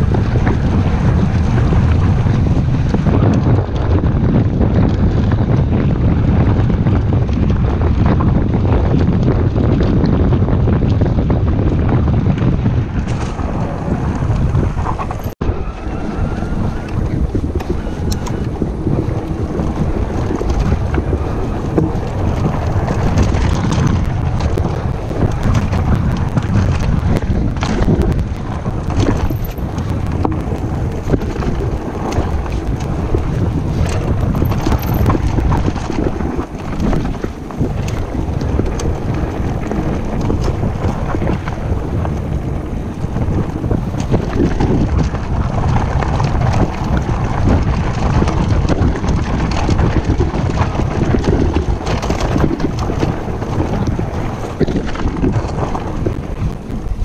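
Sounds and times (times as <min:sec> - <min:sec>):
bike rattling over gravel: 0:00.0 - 0:57.0
wind buffeting microphone: 0:00.0 - 0:57.0.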